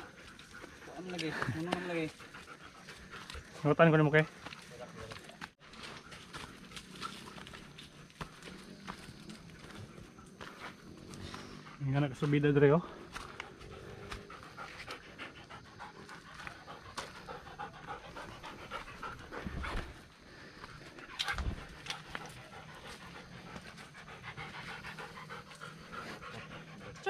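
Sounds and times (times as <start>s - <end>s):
dog panting: 0.0s - 5.2s, 5.8s - 27.0s.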